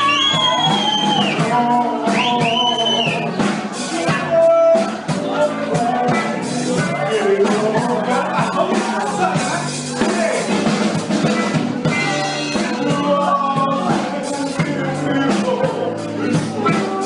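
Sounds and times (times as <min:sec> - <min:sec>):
soul band playing live: 0:00.0 - 0:17.0.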